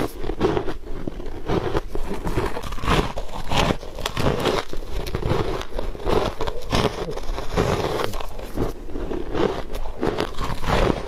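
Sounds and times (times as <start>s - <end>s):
ice being crunched: 0.0s - 11.0s.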